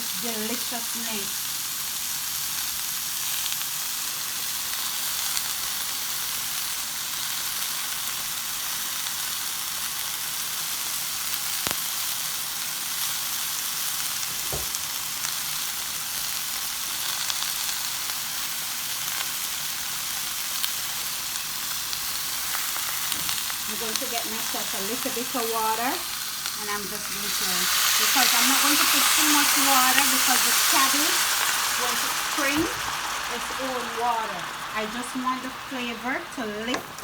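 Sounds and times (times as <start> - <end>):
food sizzling in a pot: 0.0 - 37.0.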